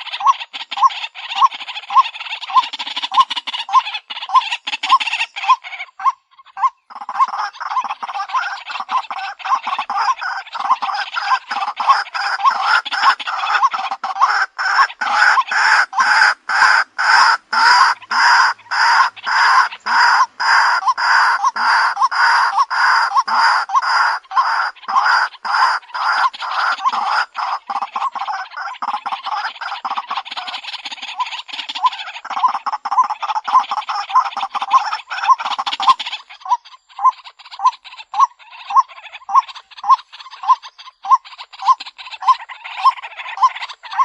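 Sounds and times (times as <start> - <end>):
waterhen calls: 0.0 - 44.0.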